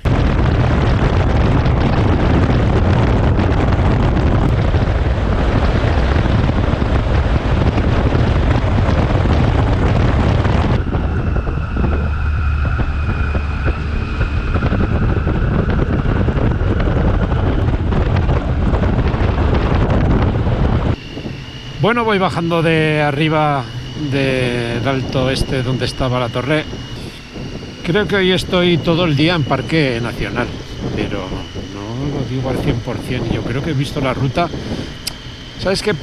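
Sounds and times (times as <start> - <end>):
high two-note whine: 0.0 - 36.0
wind noise on microphone: 0.0 - 36.0.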